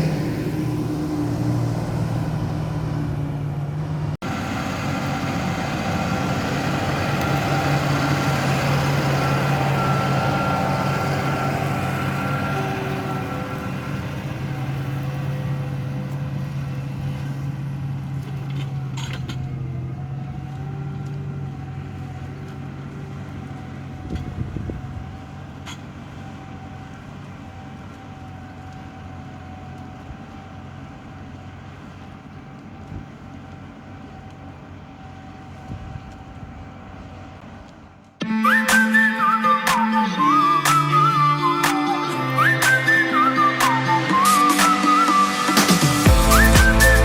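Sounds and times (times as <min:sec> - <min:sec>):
tractor diesel engine droning: 0:00.0 - 0:47.0.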